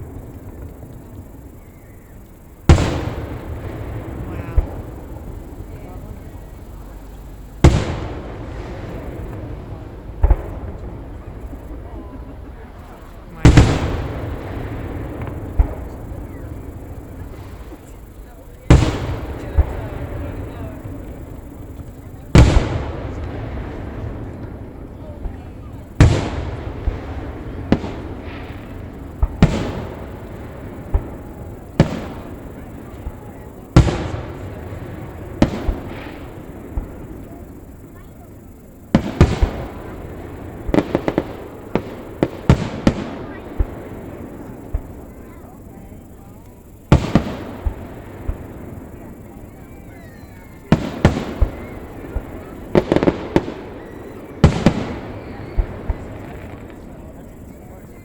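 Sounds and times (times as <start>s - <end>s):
fireworks booming: 0.0s - 58.0s
rumble after fireworks: 0.0s - 58.0s.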